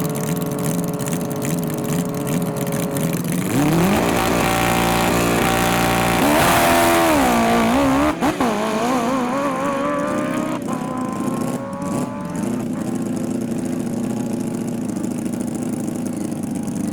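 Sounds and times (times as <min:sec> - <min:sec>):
drag racing engine revving: 0:00.0 - 0:16.9
lower steady engine: 0:00.0 - 0:16.9.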